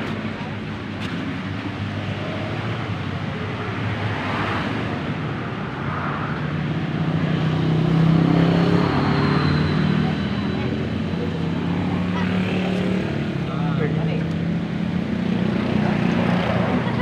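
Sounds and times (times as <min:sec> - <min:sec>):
traffic noise: 0:00.0 - 0:17.0
vehicle engine humming: 0:00.0 - 0:17.0.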